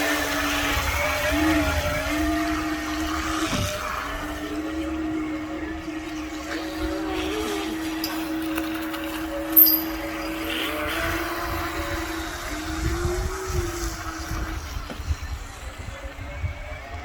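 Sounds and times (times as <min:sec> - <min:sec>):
model boat motor humming: 0:00.0 - 0:17.0.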